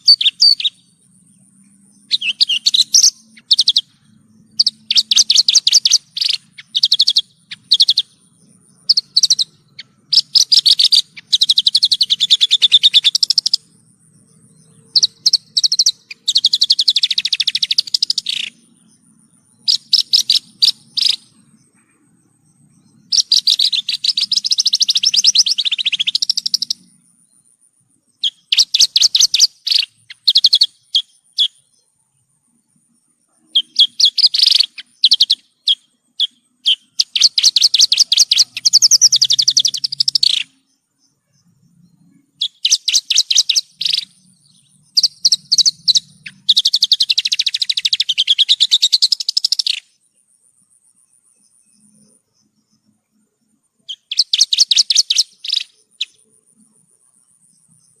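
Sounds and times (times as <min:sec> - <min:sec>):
bush lark singing: 0:00.0 - 0:58.0.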